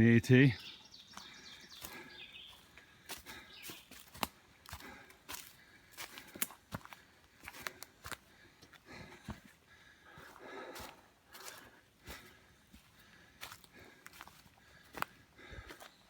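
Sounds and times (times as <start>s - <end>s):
birds chirping faintly: 0.0s - 16.0s
footsteps on a trail: 0.5s - 16.0s.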